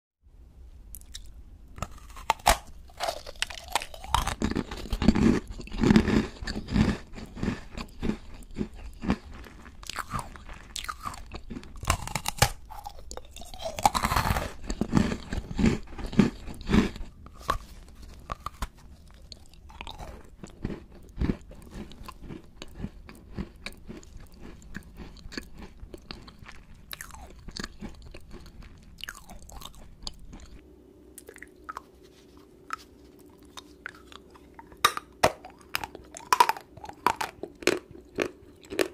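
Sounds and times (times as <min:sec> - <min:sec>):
crackling bites of sweets: 0:00.9 - 0:30.6, 0:32.7 - 0:38.9
crunchy chewing: 0:00.9 - 0:30.6, 0:31.2 - 0:38.9.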